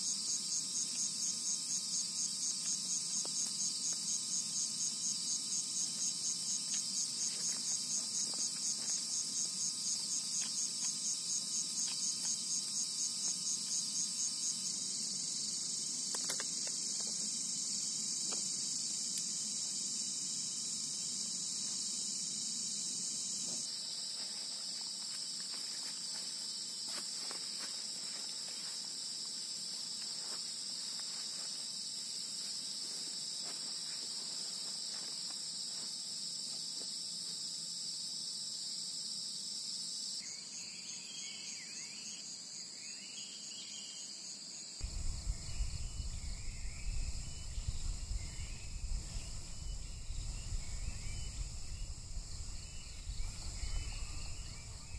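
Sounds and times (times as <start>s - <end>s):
insects trilling: 0.0s - 54.9s
lower-pitched insect trill: 0.0s - 54.9s.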